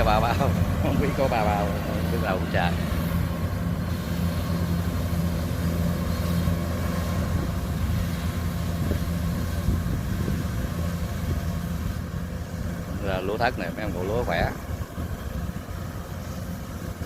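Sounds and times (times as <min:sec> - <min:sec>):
harvester machinery noise: 0:00.0 - 0:17.0
low engine drone: 0:00.0 - 0:17.0.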